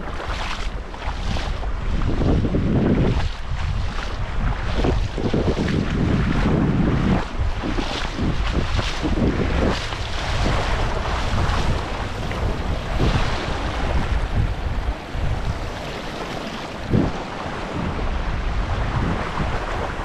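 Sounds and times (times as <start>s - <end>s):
water rushing and splashing: 0.0s - 20.0s
wind buffeting the microphone: 0.0s - 20.0s.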